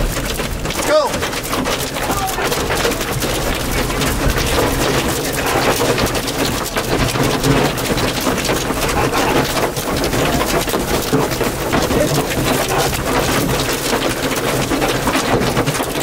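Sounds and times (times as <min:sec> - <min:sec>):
hail and rain pelting a vehicle: 0:00.0 - 0:16.0
vehicle engine rumbling: 0:00.0 - 0:16.0.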